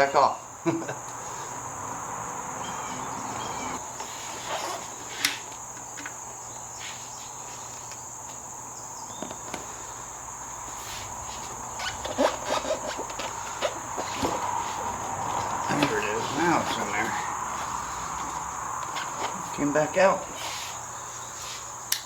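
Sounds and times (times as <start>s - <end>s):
high insect chirr: 0.0s - 22.0s.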